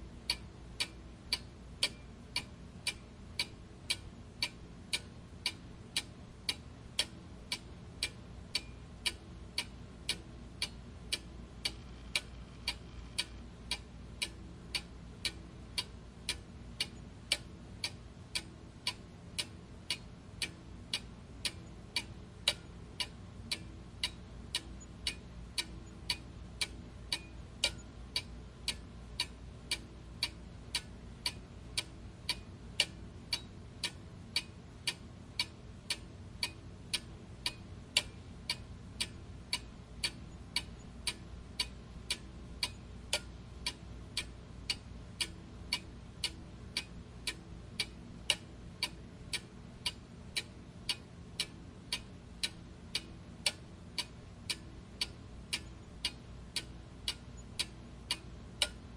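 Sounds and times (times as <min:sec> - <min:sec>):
low background hum: 0:00.0 - 0:58.9
clock ticking: 0:00.3 - 0:58.9.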